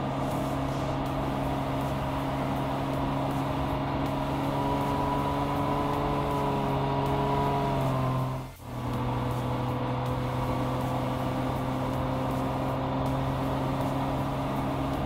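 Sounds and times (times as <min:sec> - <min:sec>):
car engine cruising: 0:00.0 - 0:15.0.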